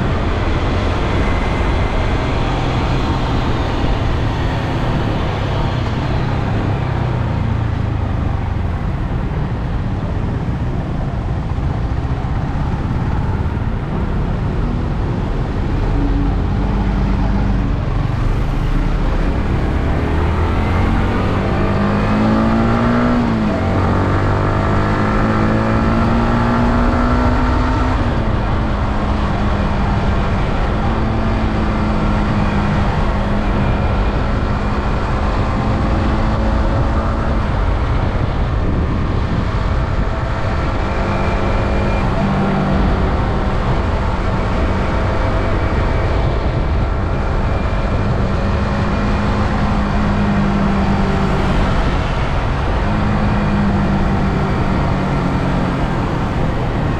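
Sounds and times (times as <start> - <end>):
wind noise: 0.0 - 56.9.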